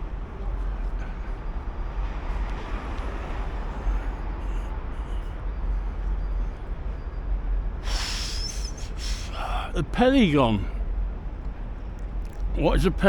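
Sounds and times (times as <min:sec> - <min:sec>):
urban background noise: 0:00.0 - 0:13.0.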